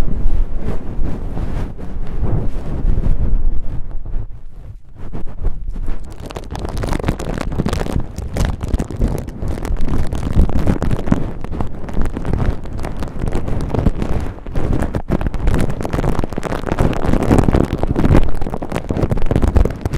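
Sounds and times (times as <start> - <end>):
cotton ball rubbing on microphone: 0.0 - 19.9.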